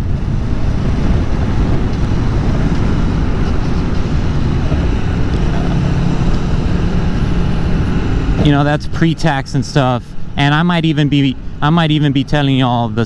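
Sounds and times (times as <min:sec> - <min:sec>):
low engine hum: 0:00.0 - 0:13.0
motorcycle engine running: 0:00.0 - 0:13.0
road roar: 0:00.0 - 0:13.0
wind rush: 0:00.0 - 0:13.0.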